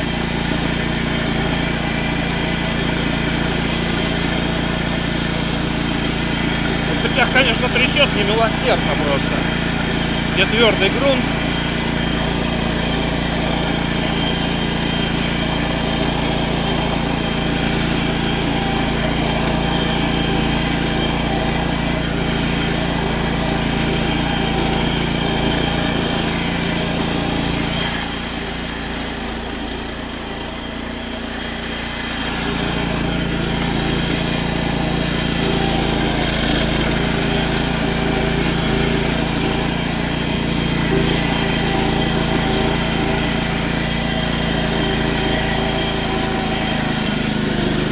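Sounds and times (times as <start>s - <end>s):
small tractor engine running: 0.0s - 47.9s.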